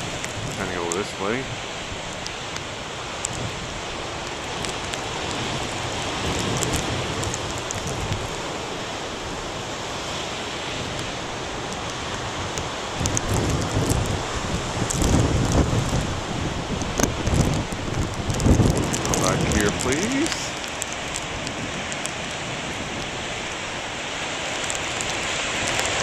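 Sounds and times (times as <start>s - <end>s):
storm surf breaking on rocks: 0.0s - 26.0s
wind on microphone: 0.0s - 26.0s.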